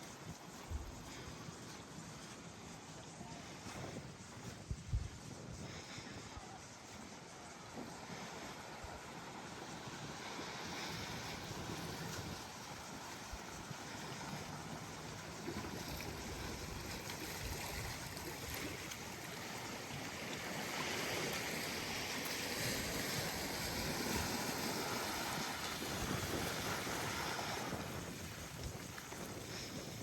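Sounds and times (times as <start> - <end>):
small waves washing on sand: 0.0 - 30.0.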